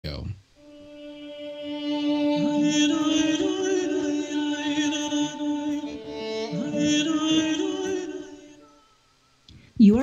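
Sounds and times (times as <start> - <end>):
chant-like singing: 0.6 - 9.0
held drone note: 0.6 - 9.0.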